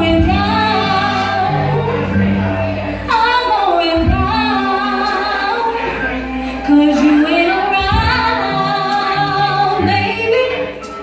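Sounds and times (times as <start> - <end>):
low bass notes: 0.0 - 11.0
woman singing through microphone: 0.0 - 11.0.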